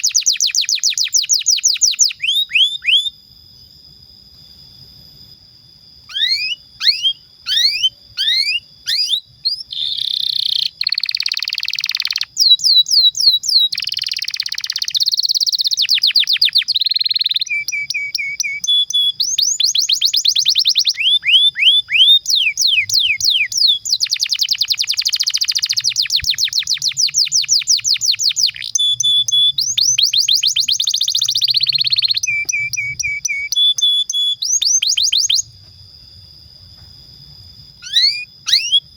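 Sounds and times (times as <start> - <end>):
canary singing trills: 0.0 - 3.2, 6.0 - 35.5, 37.8 - 38.9.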